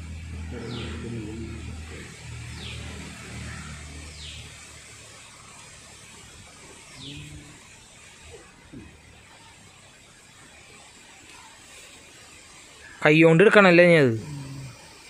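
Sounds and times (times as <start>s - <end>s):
steady low hum: 0.0s - 11.5s, 13.6s - 15.0s.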